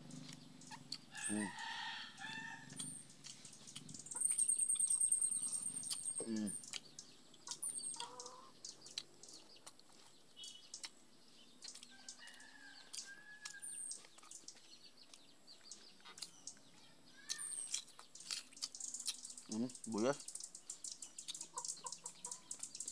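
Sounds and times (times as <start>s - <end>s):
man chewing and lip-smacking: 0.0s - 1.4s, 2.6s - 16.6s, 17.3s - 19.6s, 20.2s - 22.9s
birds chirping: 0.0s - 22.9s.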